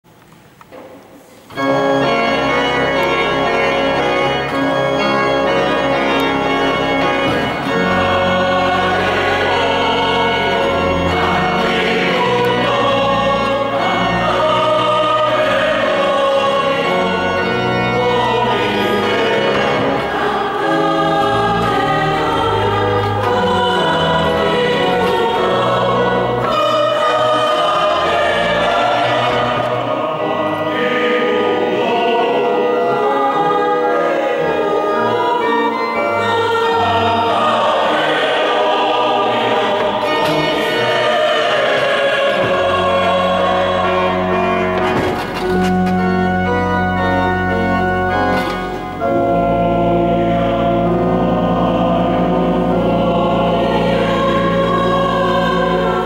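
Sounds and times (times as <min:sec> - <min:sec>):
low organ notes: 0:01.2 - 0:56.0
mixed choir singing: 0:01.5 - 0:56.0.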